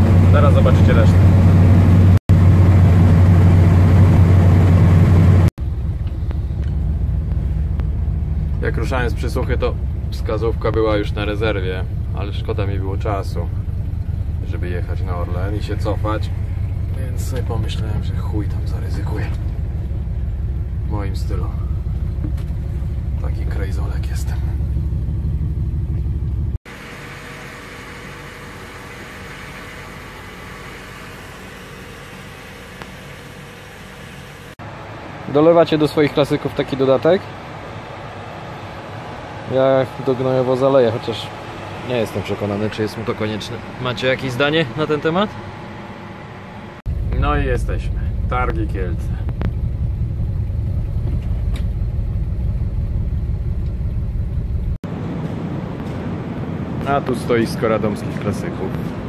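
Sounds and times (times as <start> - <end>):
pickup truck engine rumbling: 0.0 - 59.0.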